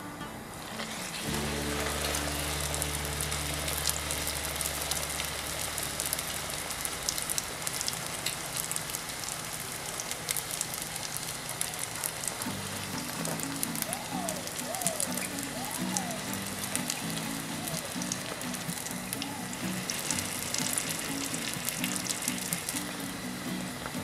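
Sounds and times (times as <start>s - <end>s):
dough sizzling in hot oil: 0.5s - 24.0s
oil popping and crackling: 0.5s - 24.0s.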